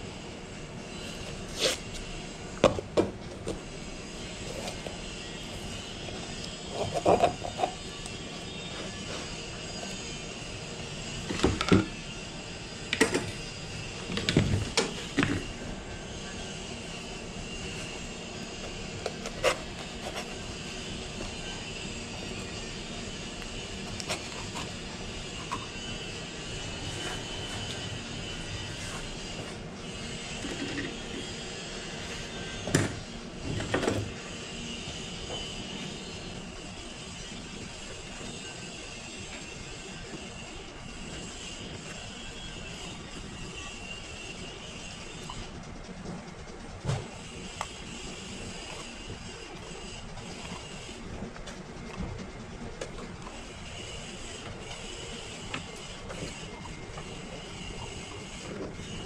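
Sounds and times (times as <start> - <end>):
steady background drone: 0.0 - 59.0
steady mechanical hum: 0.0 - 59.0.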